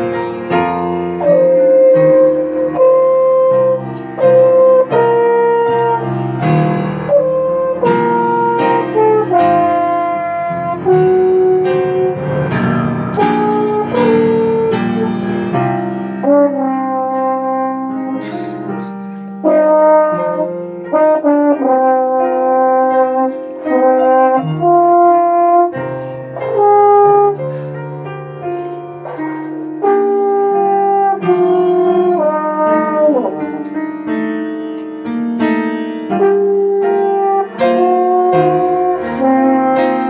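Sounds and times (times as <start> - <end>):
french horn melody: 0.0 - 40.0
piano accompaniment: 0.0 - 40.0.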